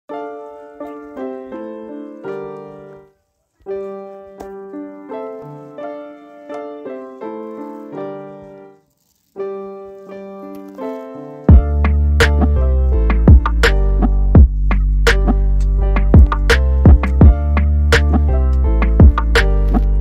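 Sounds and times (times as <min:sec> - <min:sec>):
slow piano music: 0:00.1 - 0:20.0.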